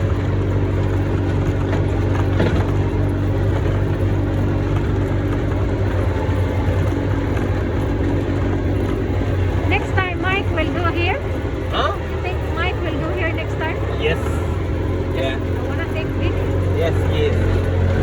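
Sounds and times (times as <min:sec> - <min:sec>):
vehicle engine humming: 0:00.0 - 0:18.0
vehicle rumbling over ground: 0:00.0 - 0:18.0.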